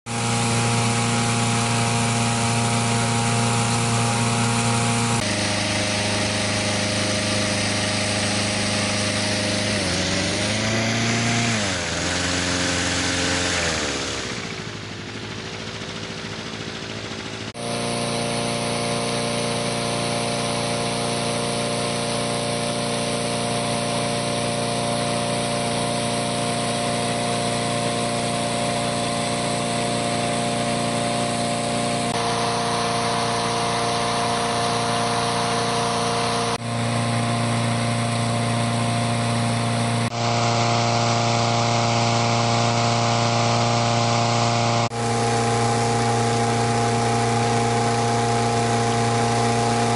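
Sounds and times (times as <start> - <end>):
petrol engine fan running: 0.1 - 49.9.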